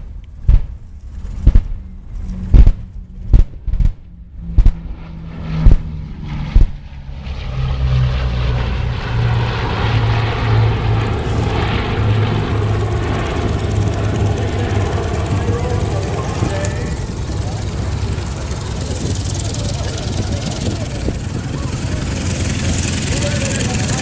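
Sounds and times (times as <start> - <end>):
propeller plane engines droning: 0.0 - 24.0.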